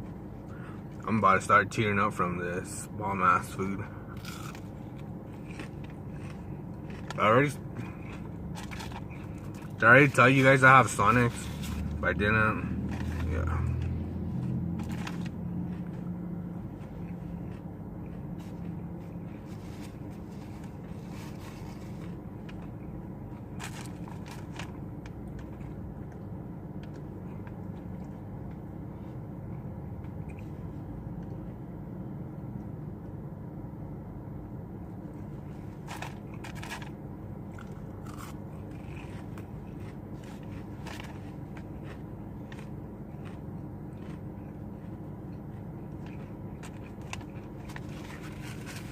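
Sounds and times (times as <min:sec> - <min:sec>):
crunching and chewing food: 0:00.0 - 0:33.2, 0:34.7 - 0:48.9
steady low hum: 0:00.0 - 0:48.9.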